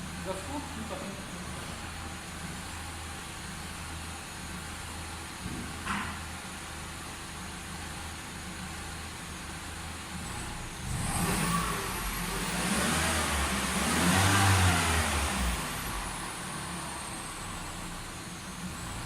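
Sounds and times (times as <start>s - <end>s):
car engine revving from idle: 0.0s - 19.0s.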